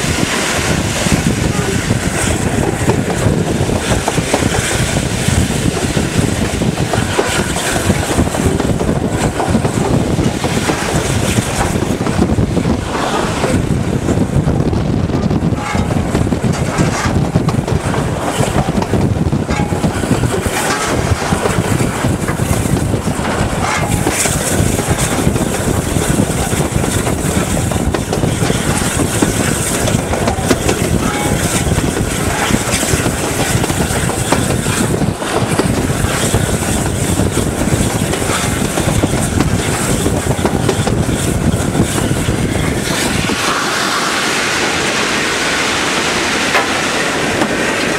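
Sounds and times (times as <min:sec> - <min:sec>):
steady steam hiss: 0:00.0 - 0:13.8, 0:19.9 - 0:47.9
steam locomotive rattle and rumble: 0:00.0 - 0:47.9
wheels clattering over rails: 0:00.0 - 0:47.9.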